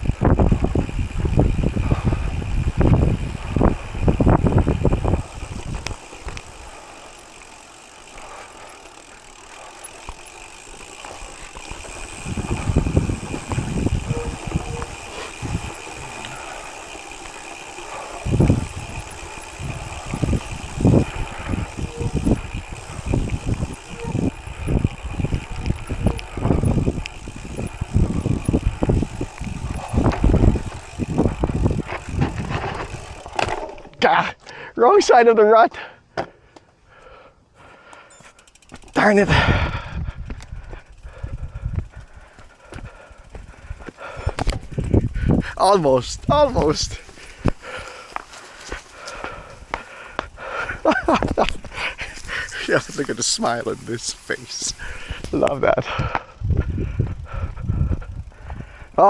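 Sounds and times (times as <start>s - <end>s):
bike tyres rumbling on rocky dirt: 0.0s - 34.3s, 38.4s - 59.0s.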